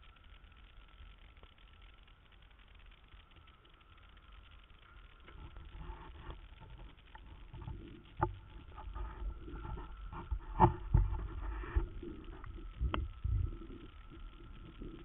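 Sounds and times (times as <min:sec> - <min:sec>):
faint steady whine: 0:00.0 - 0:15.0
muffled underwater rumble: 0:00.0 - 0:15.0.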